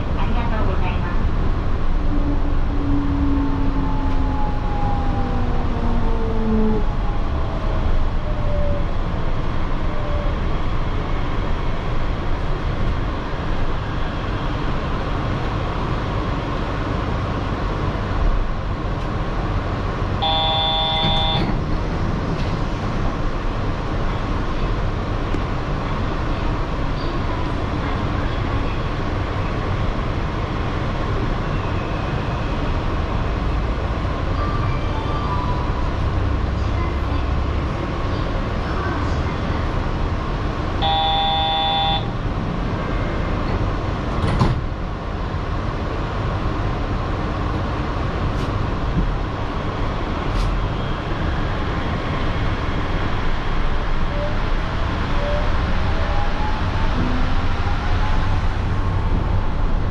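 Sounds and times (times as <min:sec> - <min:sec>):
train drive whine: 0:00.0 - 0:59.9.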